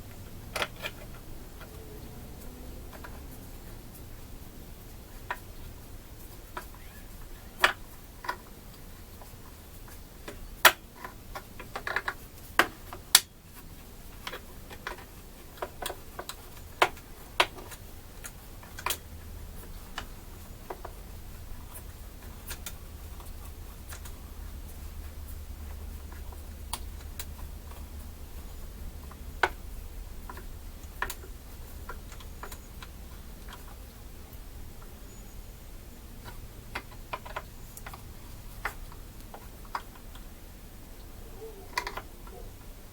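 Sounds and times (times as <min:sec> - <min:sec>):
hand tools clicking and tapping: 0:00.0 - 0:03.6, 0:06.2 - 0:35.2, 0:36.0 - 0:40.4, 0:41.0 - 0:42.7
low steady hum: 0:00.0 - 0:42.9.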